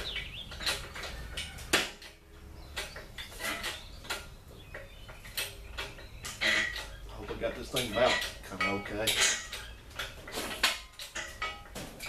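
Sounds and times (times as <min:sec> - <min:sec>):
engine hoist metal clanks: 0:00.0 - 0:12.0.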